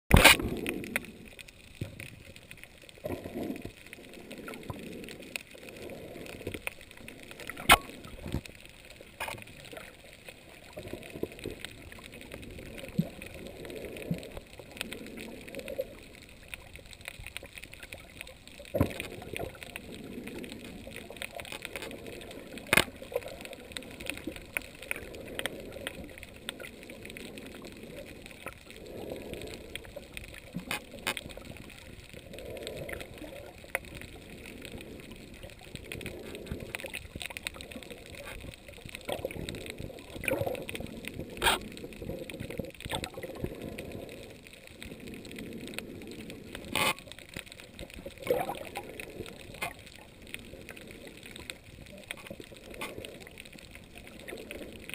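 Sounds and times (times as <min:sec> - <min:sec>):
sharp underwater clicks and crackles: 0:00.0 - 0:54.9
underwater water rush: 0:00.1 - 0:54.9.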